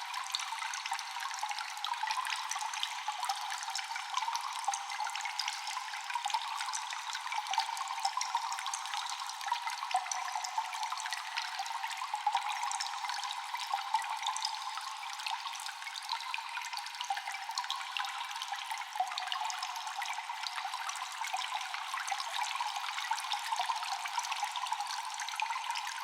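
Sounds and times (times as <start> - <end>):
trickle of running water: 0.0 - 26.0
water drops dripping and echoing: 0.0 - 26.0.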